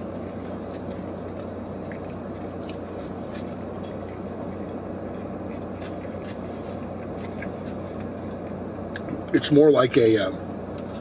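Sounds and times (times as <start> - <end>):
man chewing: 0.0 - 9.2
car engine hum inside cabin: 0.0 - 11.0.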